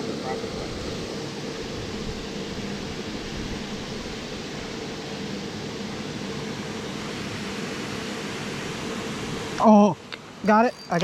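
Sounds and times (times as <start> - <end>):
steady rushing noise: 0.0 - 9.6.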